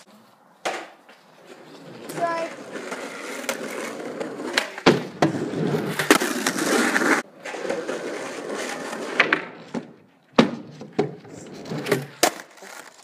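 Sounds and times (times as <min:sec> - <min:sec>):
skateboard wheels rolling on asphalt: 0:00.1 - 0:13.0.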